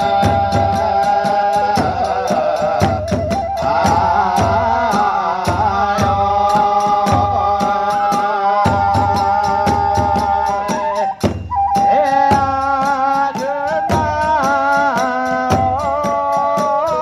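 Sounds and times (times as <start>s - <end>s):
bamboo flute melody: 0.0s - 17.0s
hand cymbals: 0.0s - 17.0s
large drum strokes: 0.0s - 17.0s.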